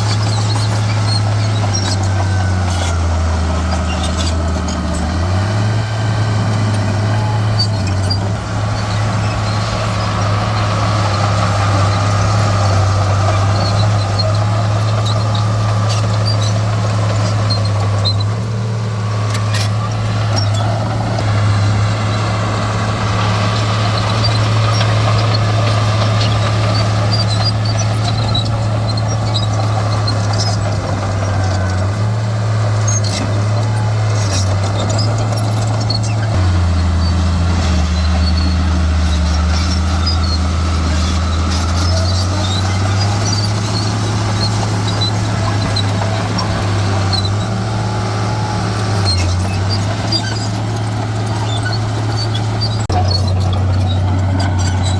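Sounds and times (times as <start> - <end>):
short high squeaks: 0.0 - 21.2, 22.0 - 54.9
diesel machine engine running: 0.0 - 54.9.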